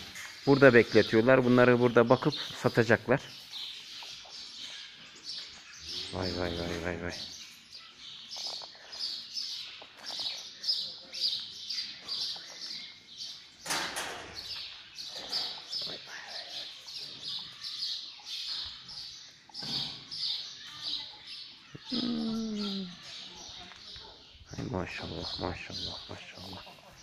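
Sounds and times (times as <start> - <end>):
small birds peeping: 0.0 - 27.0.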